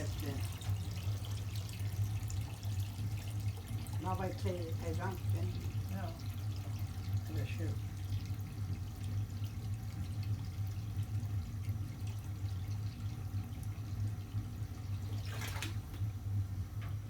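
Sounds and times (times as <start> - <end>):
hissing water gush: 0.0 - 16.0
water running from a hose: 0.0 - 16.2
steady low hum: 0.0 - 17.0.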